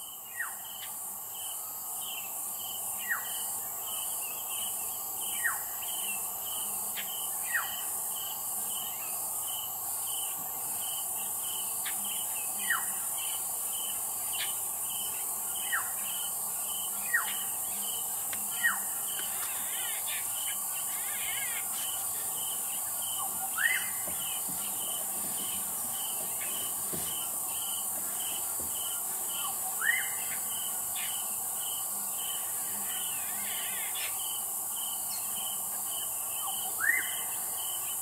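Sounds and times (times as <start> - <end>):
insect pulsing chirp: 0.0 - 38.0
insects buzzing: 0.0 - 38.0.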